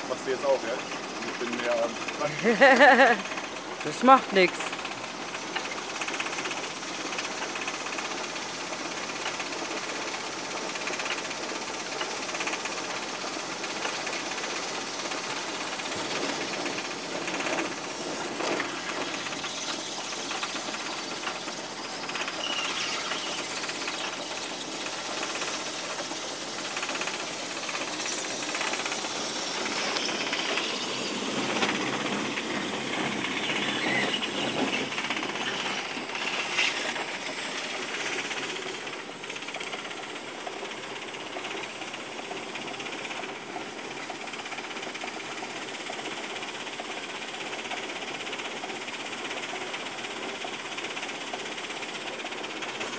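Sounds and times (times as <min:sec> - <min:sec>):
machine rattling and clattering: 0:00.0 - 0:52.9.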